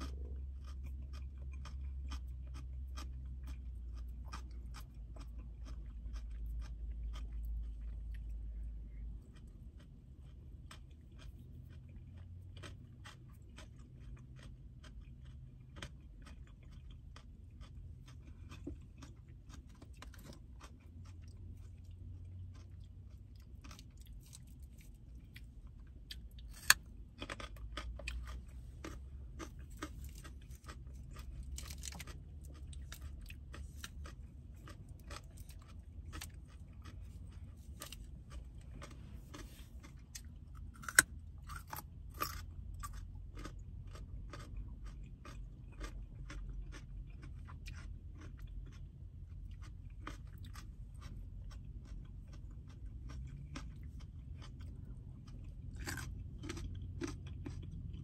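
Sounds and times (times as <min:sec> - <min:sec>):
chewing food with crunches: 0:00.0 - 0:58.0.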